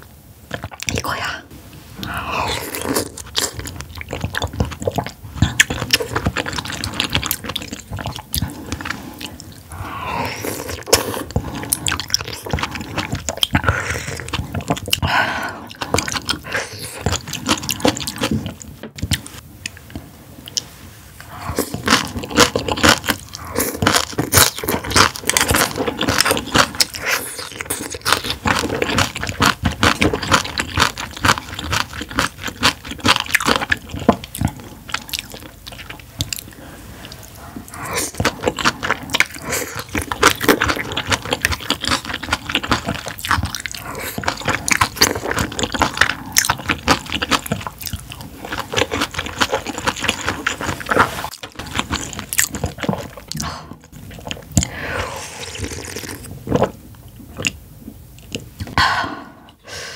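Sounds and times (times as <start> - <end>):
wet chewing: 2.0 - 58.8.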